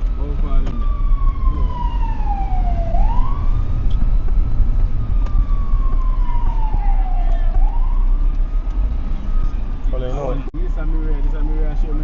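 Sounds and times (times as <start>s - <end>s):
steady low rumble: 0.0s - 11.2s
ambulance siren wailing: 0.0s - 12.0s.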